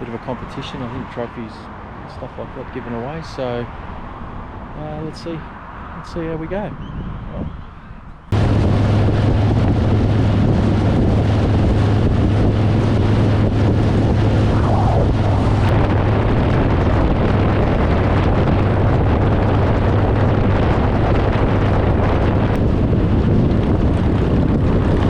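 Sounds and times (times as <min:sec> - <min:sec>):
vehicle engine droning: 0:00.0 - 0:25.0
wind buffeting microphone: 0:00.0 - 0:25.0.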